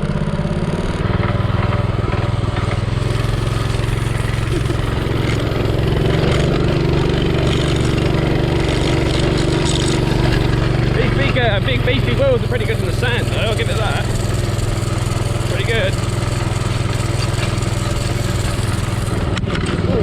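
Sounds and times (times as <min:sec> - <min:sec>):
mini bike engine running: 0:00.0 - 0:20.0.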